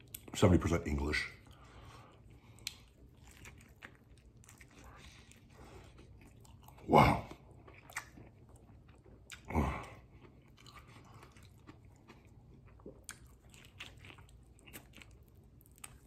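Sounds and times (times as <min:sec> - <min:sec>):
person chewing food: 0:01.4 - 0:16.0.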